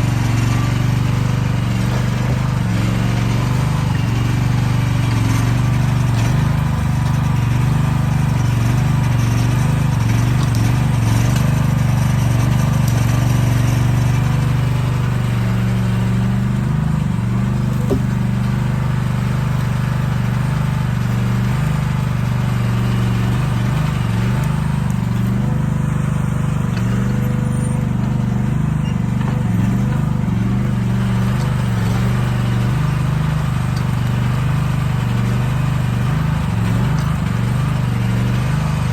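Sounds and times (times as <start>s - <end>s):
heavy equipment engine drone: 0.0s - 38.9s.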